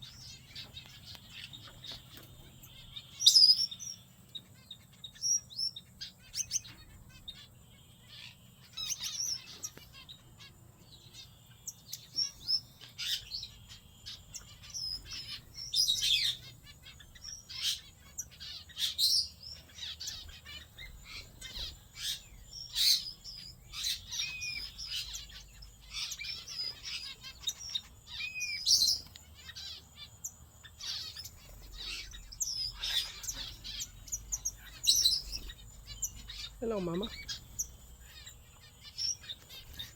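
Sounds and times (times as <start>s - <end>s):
small finches chirping: 0.0s - 39.9s.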